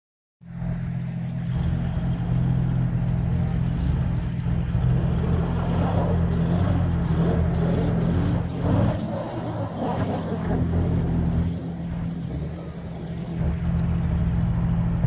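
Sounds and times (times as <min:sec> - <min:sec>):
truck engine low drone: 0:00.4 - 0:15.0.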